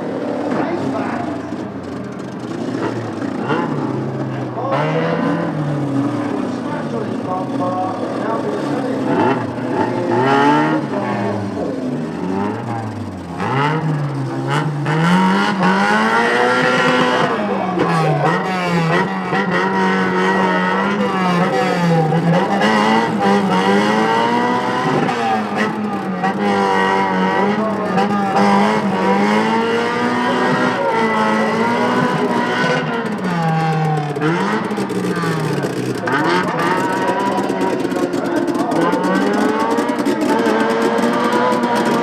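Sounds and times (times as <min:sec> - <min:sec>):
race car engines accelerating: 0:00.0 - 0:42.0.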